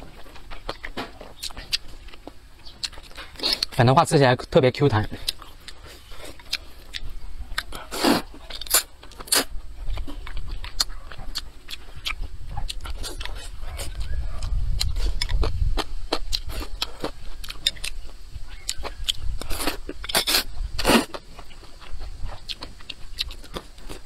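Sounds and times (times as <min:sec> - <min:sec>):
man slurping and chewing noodles: 0:00.0 - 0:03.8, 0:05.1 - 0:24.0.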